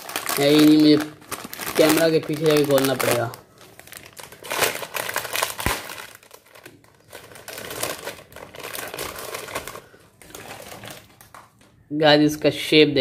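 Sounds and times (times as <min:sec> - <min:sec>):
plastic chips packet crinkling: 0:00.0 - 0:11.8.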